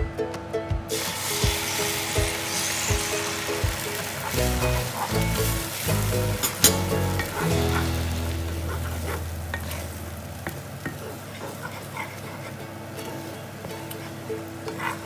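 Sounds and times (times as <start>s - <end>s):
eggs sizzling: 0.9s - 15.0s
spatula stirring eggs in pan: 1.3s - 15.0s.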